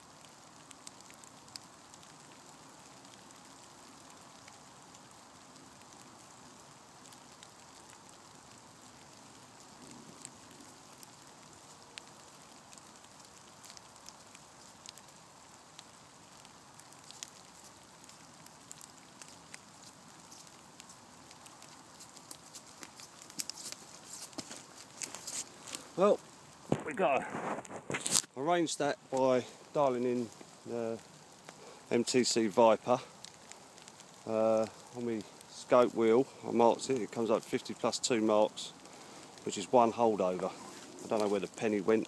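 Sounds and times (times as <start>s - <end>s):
light rain hiss: 0.0s - 42.0s
raindrop ticks: 0.0s - 42.0s.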